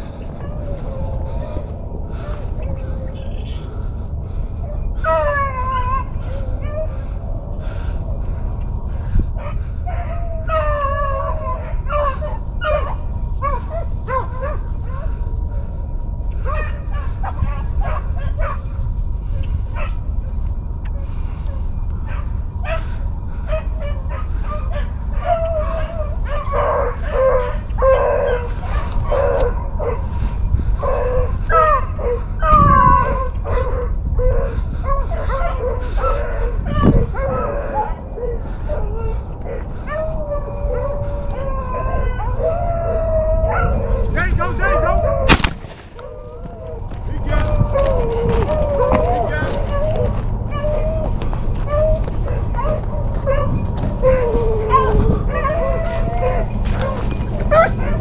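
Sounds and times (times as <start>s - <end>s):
hounds baying and yelping: 0.0s - 58.0s
low rumble: 0.0s - 58.0s.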